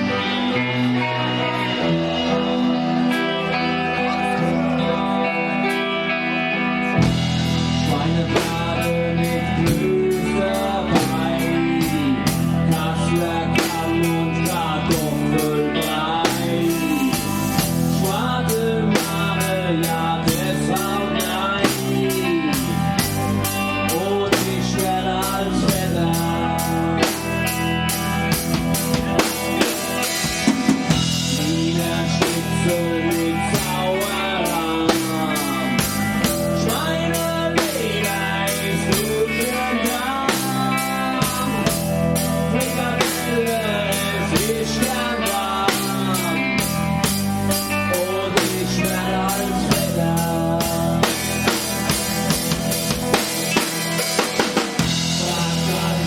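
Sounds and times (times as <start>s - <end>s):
electric guitar: 0.0s - 56.0s
drum kit beat: 6.9s - 56.0s.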